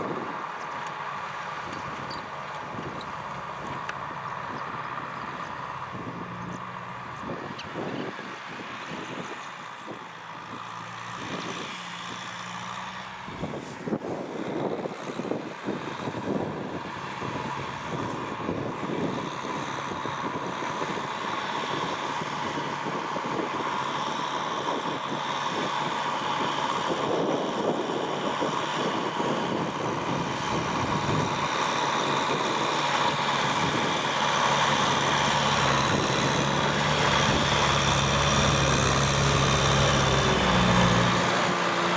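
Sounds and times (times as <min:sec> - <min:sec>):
tractor diesel engine running: 0:00.0 - 0:10.5, 0:16.1 - 0:41.9.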